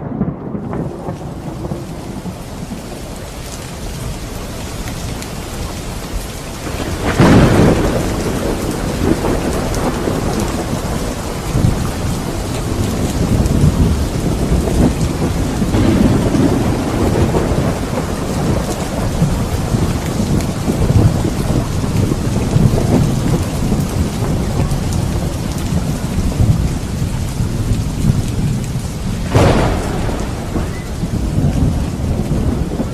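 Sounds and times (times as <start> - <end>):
thunderclap: 0.0 - 3.4, 6.6 - 32.9
rolling thunder: 0.0 - 4.4, 5.8 - 32.9
heavy rain falling: 0.0 - 32.9.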